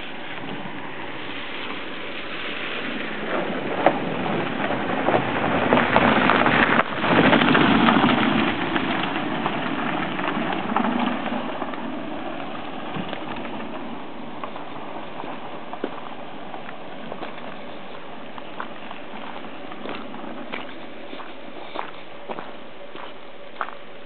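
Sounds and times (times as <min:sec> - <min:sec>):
vehicle passing on road: 0:00.0 - 0:24.0.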